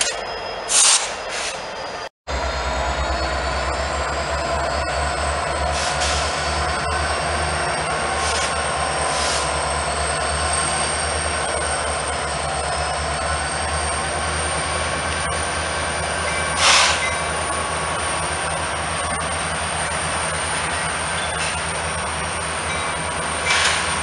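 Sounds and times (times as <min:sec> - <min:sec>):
diesel locomotive engines droning: 0:00.0 - 0:24.0
wheel squeal: 0:03.0 - 0:24.0.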